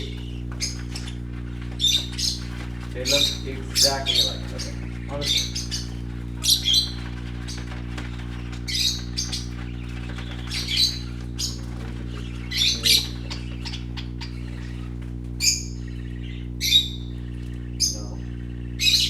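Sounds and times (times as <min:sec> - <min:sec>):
low hum: 0:00.0 - 0:19.0
parrots chirping and squawking: 0:00.0 - 0:19.0.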